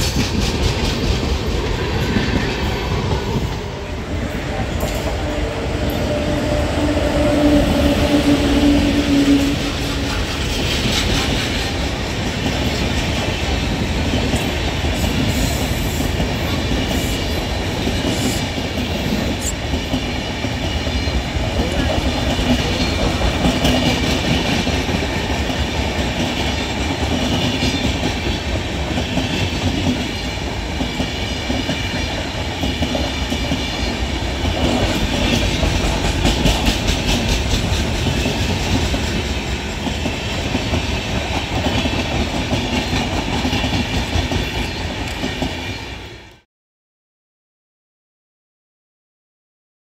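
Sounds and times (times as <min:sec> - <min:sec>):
clickety-clack over rail joints: 0:00.0 - 0:46.4
train wheels rumbling on rail: 0:00.0 - 0:46.4.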